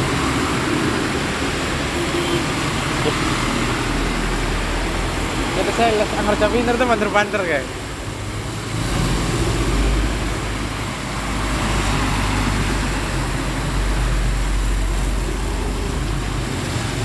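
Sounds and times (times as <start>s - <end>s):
tyres hissing through water: 0.0s - 17.0s
vehicle engines rumbling: 0.0s - 17.0s.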